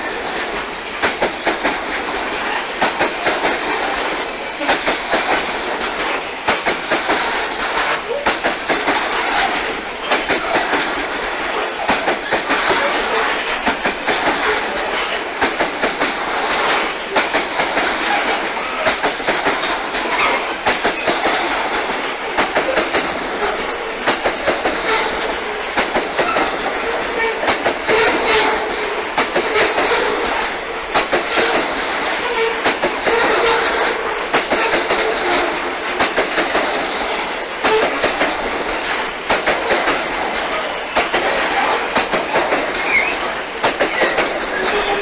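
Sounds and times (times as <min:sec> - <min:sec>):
train wheels rumbling on rail: 0:00.0 - 0:45.0
wheels clacking over rail joints: 0:00.0 - 0:45.0.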